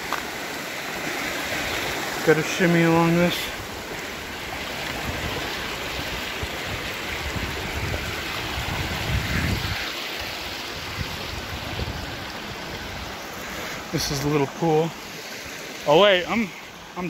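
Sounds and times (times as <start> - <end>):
creek water rushing over rock: 0.0 - 17.0.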